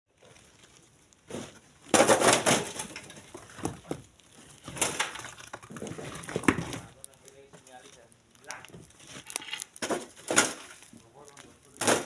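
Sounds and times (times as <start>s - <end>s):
stones and gravel crunching: 0.1s - 12.0s.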